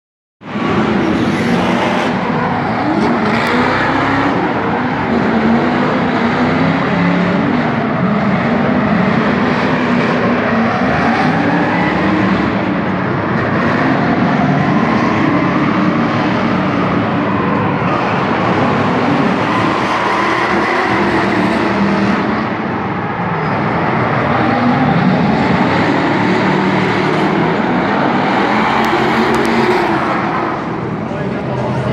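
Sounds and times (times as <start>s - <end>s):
car engines revving hard: 0.4s - 31.9s.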